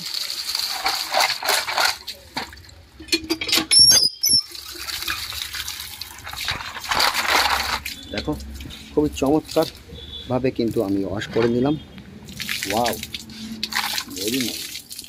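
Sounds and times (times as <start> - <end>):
water pouring onto plastic toys: 0.0 - 2.8, 3.8 - 9.9, 10.6 - 11.1, 12.3 - 15.0.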